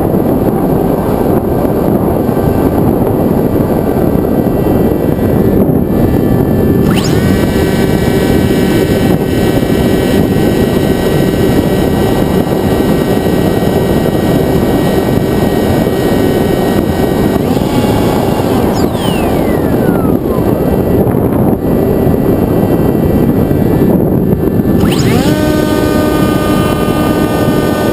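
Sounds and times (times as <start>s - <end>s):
electric motor and propeller whine: 0.0s - 27.9s
wind rush: 0.0s - 27.9s.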